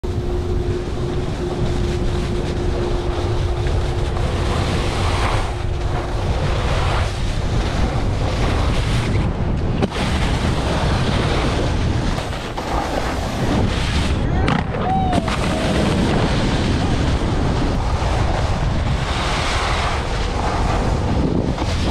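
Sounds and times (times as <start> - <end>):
snowboard sliding on snow: 0.0 - 14.3, 14.9 - 21.9
wind buffeting microphone: 0.0 - 21.9.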